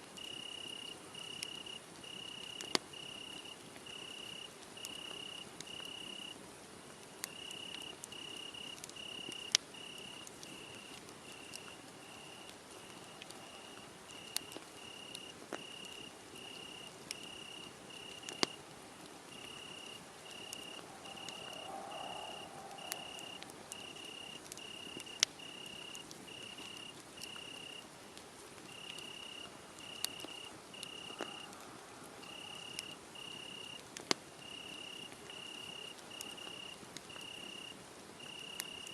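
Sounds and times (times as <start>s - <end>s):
wood fire crackling: 0.0s - 38.9s
cricket chirping: 0.2s - 6.4s, 7.2s - 18.6s, 19.3s - 27.9s, 28.7s - 31.6s, 32.2s - 33.8s, 34.4s - 38.9s.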